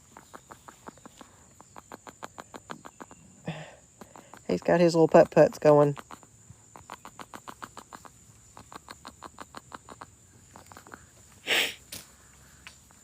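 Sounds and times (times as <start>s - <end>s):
crickets humming: 0.0s - 13.0s
monkey making quiet clicks: 0.0s - 13.0s.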